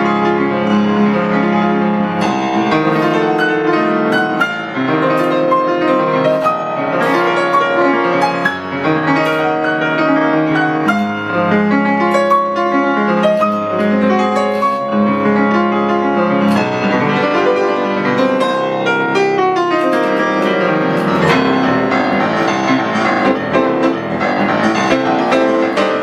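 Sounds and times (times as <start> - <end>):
piano background music: 0.0 - 26.0.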